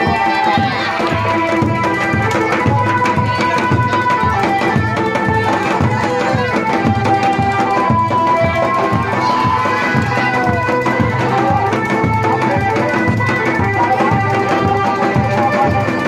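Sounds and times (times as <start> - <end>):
melody of long bending notes: 0.0 - 16.0
steady drum beat: 0.0 - 16.0.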